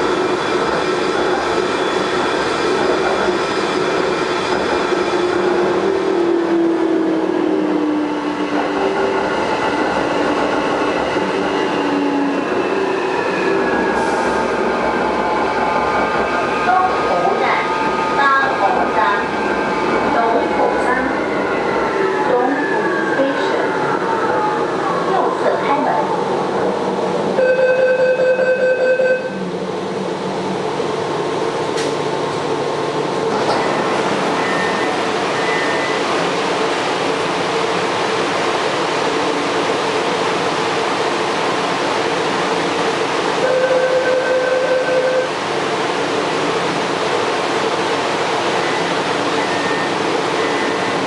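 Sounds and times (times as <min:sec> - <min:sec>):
train running with whining tones: 0:00.0 - 0:51.0.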